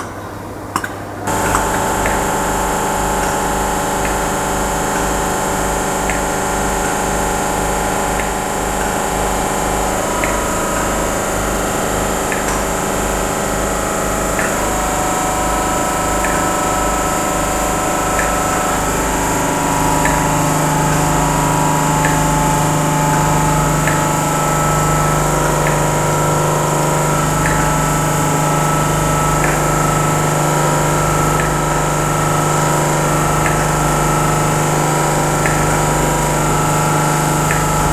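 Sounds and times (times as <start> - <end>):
locomotive machinery humming: 1.3 - 37.9.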